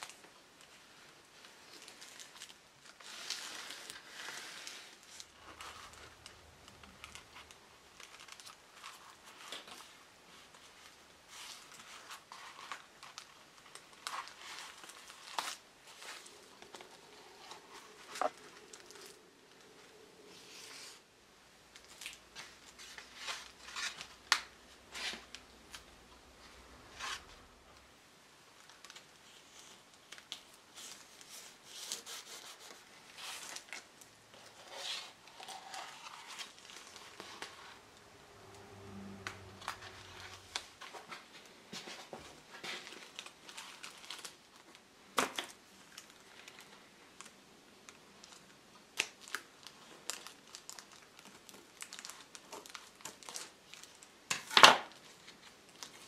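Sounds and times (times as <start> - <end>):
paper rustling and crinkling: 0.0 - 21.0, 21.8 - 27.4, 28.6 - 37.9, 39.4 - 56.0.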